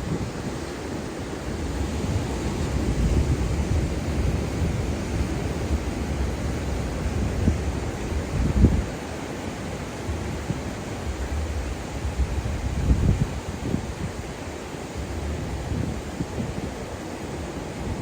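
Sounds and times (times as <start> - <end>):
ocean surf washing onto beach: 0.0 - 18.0
wind buffeting microphone: 0.0 - 18.0.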